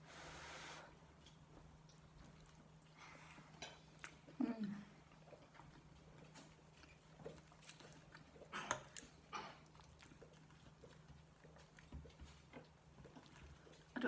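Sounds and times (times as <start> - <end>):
faint low hum: 0.0 - 14.0
close-up chewing: 1.1 - 14.0.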